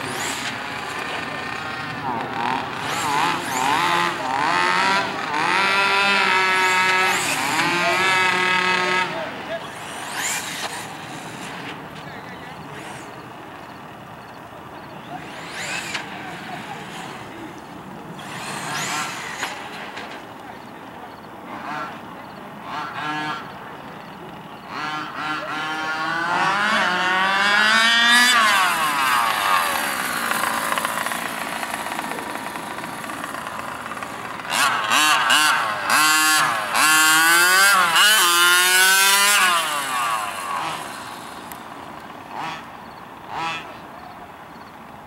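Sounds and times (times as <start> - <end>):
small two-stroke engine revving: 0.0 - 45.0.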